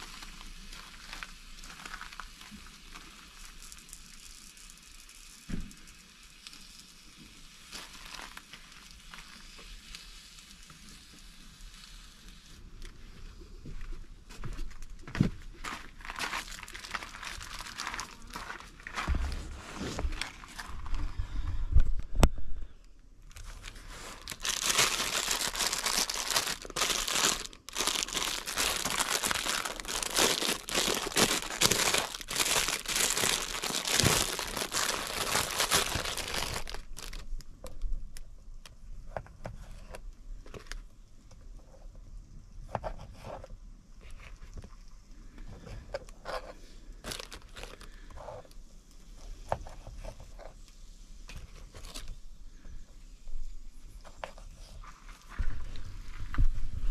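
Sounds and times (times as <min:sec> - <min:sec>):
food wrapping crinkling: 0:00.0 - 0:11.9, 0:13.8 - 0:21.6, 0:23.2 - 0:40.9, 0:44.0 - 0:52.2.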